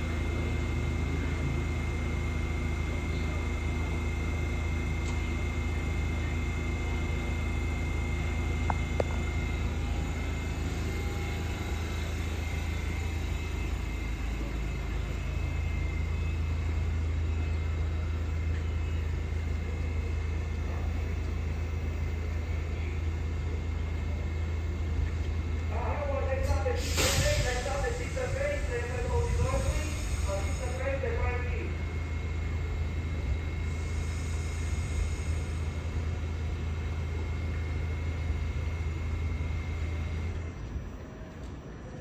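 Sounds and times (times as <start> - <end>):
subway car equipment humming: 0.0 - 42.0.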